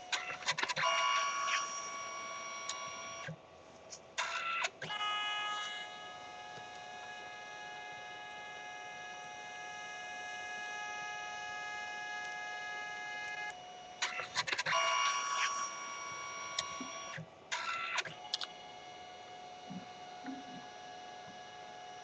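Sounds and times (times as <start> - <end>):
photo printer motor whine: 0.0 - 3.4, 4.2 - 22.0.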